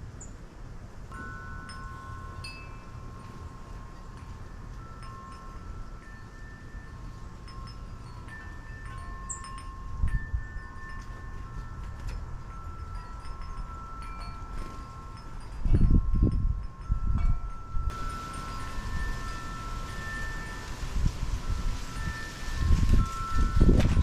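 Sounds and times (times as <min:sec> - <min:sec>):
low wind rumble: 0:00.0 - 0:24.0
wind chimes ringing: 0:01.0 - 0:24.0.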